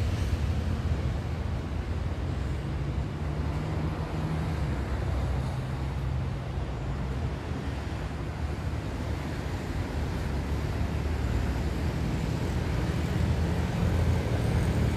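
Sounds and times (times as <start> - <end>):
distant traffic rumble: 0.0 - 14.9.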